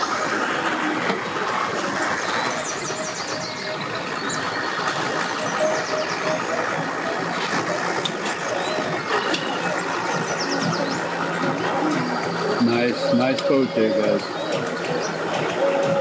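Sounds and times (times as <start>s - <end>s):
outboard motor idling: 0.0s - 16.0s.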